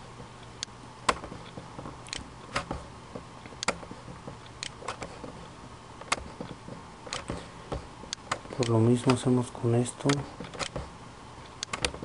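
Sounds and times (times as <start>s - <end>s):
faint low hum: 0.0s - 12.0s
computer mouse clicks: 0.6s - 5.3s, 6.0s - 9.4s, 10.0s - 12.0s.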